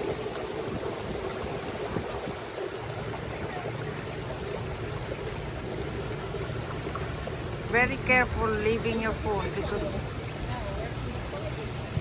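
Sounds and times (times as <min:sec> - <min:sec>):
background rumble and hiss: 0:00.0 - 0:12.0.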